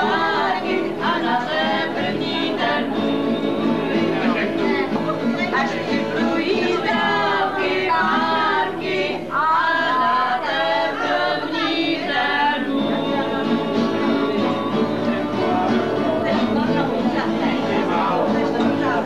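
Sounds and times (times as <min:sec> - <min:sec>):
several voices singing together: 0:00.0 - 0:19.0.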